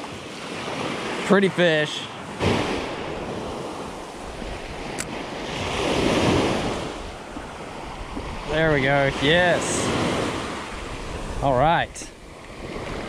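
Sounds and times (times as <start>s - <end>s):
waves breaking on beach: 0.0s - 13.0s
wind on microphone: 2.4s - 13.0s.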